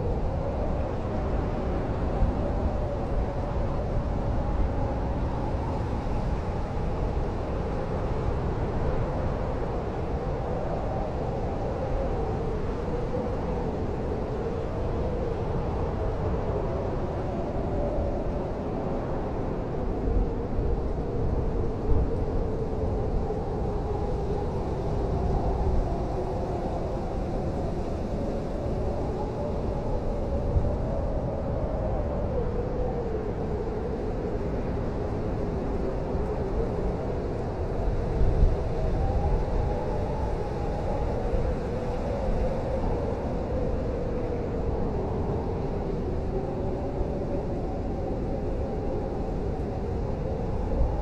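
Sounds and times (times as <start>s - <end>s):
blizzard wind howling: 0.0s - 51.0s.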